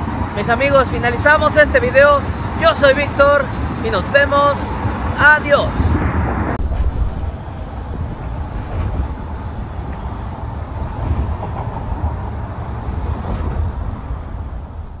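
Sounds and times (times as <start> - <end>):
road rumble: 0.0 - 15.0
wind buffeting microphone: 0.0 - 15.0.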